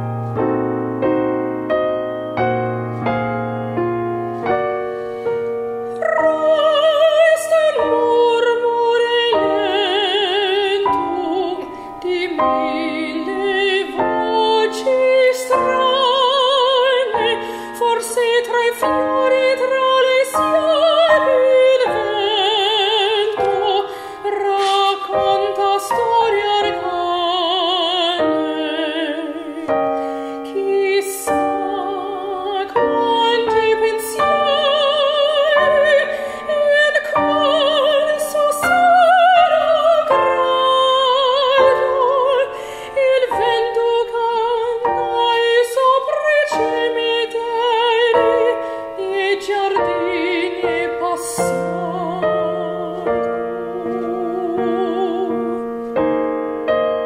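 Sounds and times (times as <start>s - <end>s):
digital piano chords: 0.0s - 57.0s
soprano singing with vibrato: 5.8s - 57.0s.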